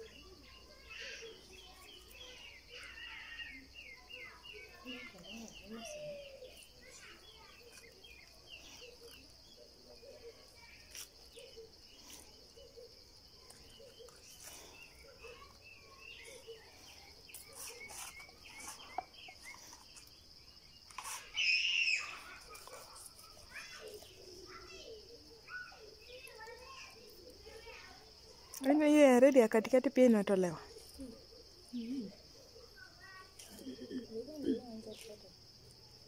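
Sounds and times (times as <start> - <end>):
bird chirps: 0.0 - 28.7, 29.8 - 35.2
high insect drone: 0.0 - 29.0, 30.6 - 36.0.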